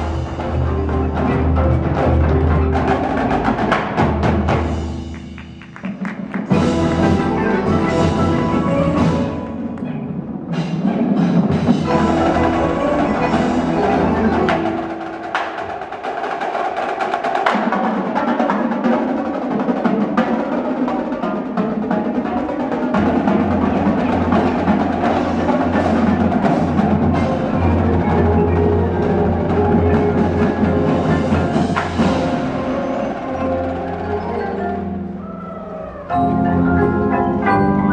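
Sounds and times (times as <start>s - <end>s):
marimba: 0.0s - 19.1s, 19.9s - 37.9s
drums: 0.0s - 37.9s.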